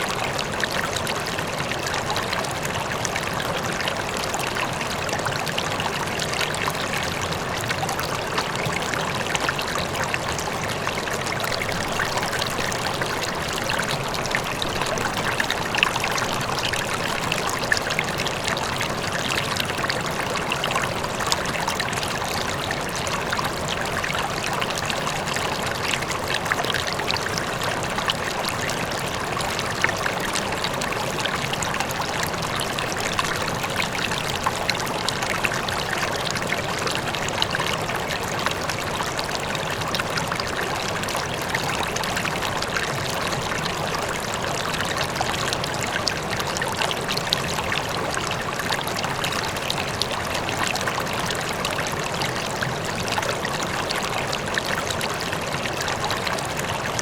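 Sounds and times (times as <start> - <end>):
distant waterfall: 0.0 - 57.0
river water flowing over rocks: 0.0 - 57.0.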